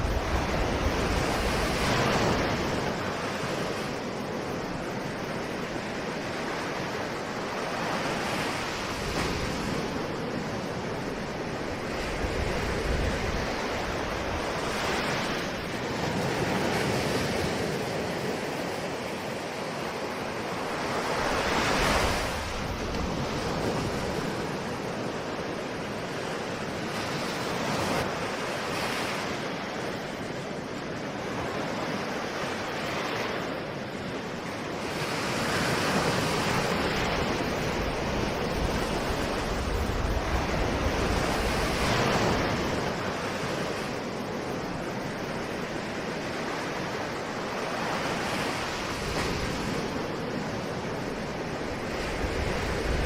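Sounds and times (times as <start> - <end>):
ocean waves breaking: 0.0 - 53.0.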